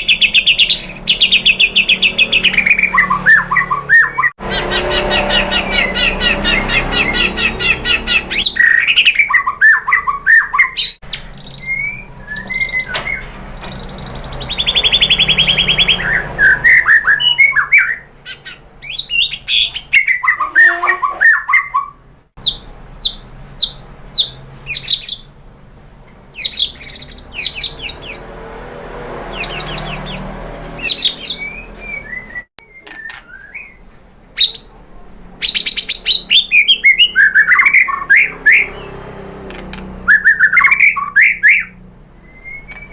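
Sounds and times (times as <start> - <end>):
songbird singing: 0.0 - 25.4, 26.1 - 42.9.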